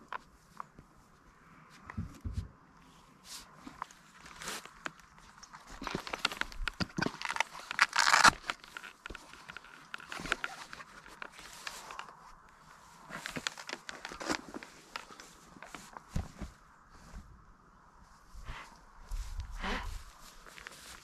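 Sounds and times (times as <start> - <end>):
solar panel fabric rustling: 0.0 - 21.0.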